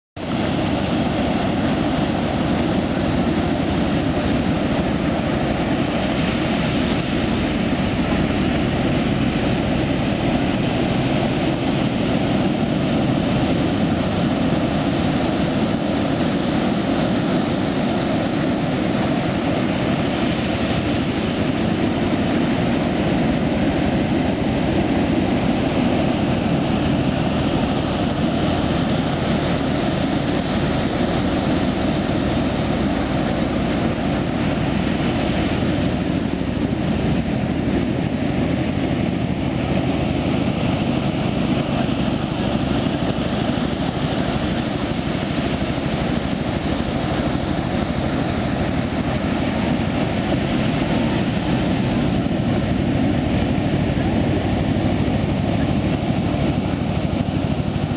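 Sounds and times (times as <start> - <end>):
ocean surf breaking: 0.2 - 57.9.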